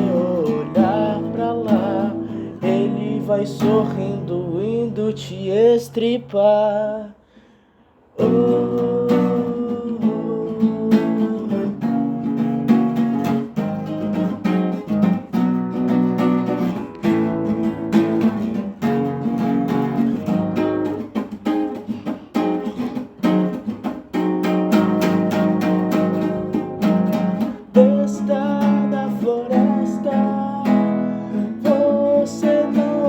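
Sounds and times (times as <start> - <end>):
acoustic guitar strumming chords: 0.0 - 7.1, 8.2 - 33.0.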